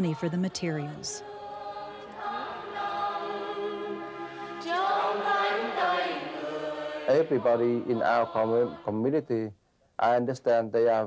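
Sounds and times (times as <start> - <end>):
choir of women singing hymn: 0.0 - 9.2.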